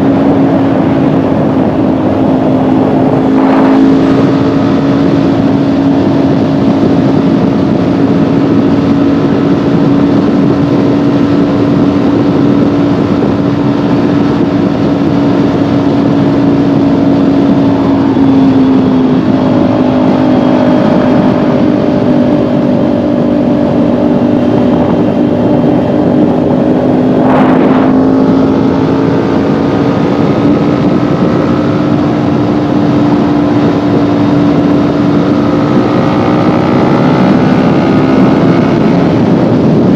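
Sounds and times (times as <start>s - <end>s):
motorcycle engine cruising: 0.0s - 39.9s
wind rushing: 0.0s - 39.9s.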